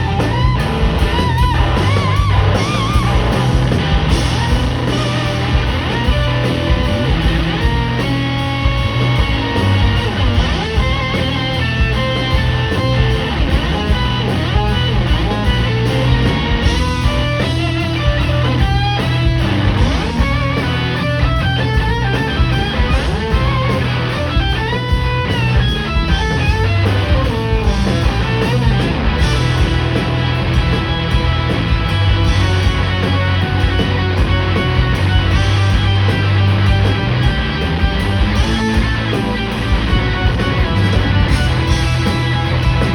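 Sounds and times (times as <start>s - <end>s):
blues-rock band playing: 0.0s - 42.9s
lead electric guitar: 0.0s - 42.9s.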